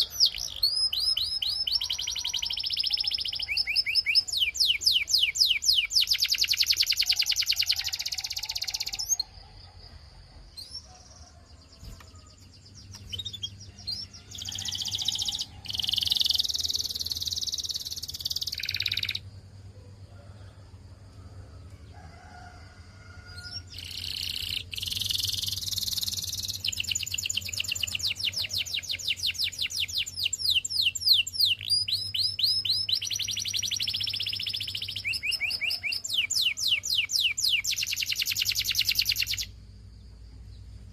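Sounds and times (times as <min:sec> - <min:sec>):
canary singing trills: 0:00.0 - 0:09.8, 0:10.4 - 0:19.3, 0:23.3 - 0:39.6
scattered bird chirps: 0:00.0 - 0:09.8, 0:10.5 - 0:19.2, 0:23.4 - 0:39.6.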